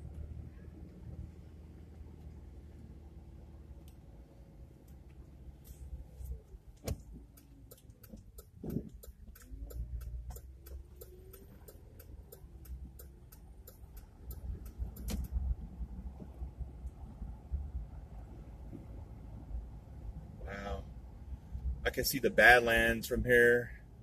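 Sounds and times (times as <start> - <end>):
low car rumble: 0.0 - 24.0
turn signal ticking: 3.7 - 24.0.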